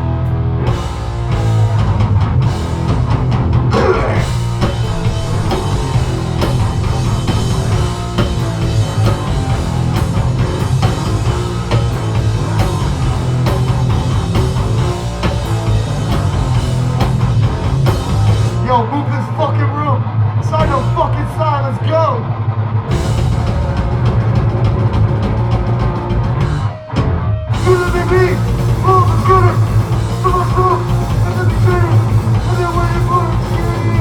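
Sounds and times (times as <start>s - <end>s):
instrumental heavy rock band: 0.0s - 34.0s.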